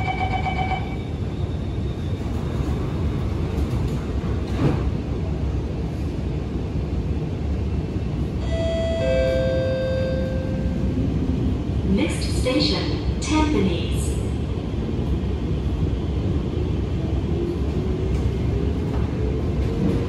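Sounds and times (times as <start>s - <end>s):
metro train rumble: 0.0s - 20.0s.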